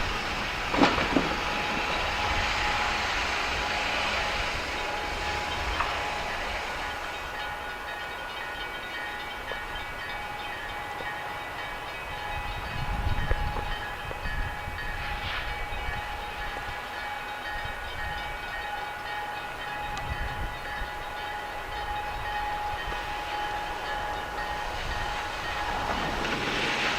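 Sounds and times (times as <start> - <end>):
diesel locomotive engine rumble: 0.0 - 26.9
steady high-pitched tone: 0.0 - 26.9.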